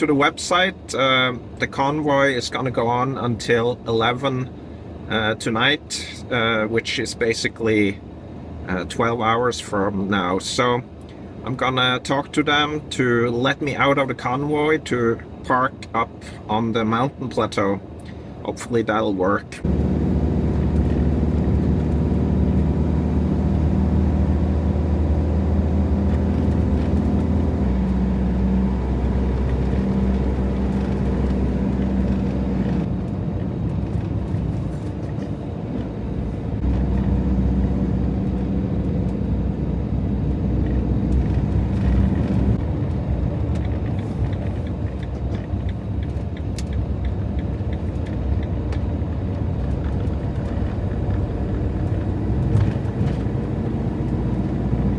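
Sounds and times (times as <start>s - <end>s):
van engine driving: 0.0s - 54.9s.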